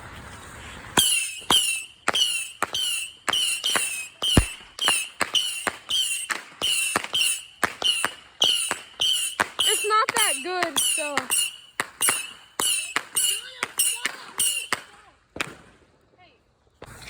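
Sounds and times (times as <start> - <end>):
firework pops with falling whistles: 1.0 - 16.0.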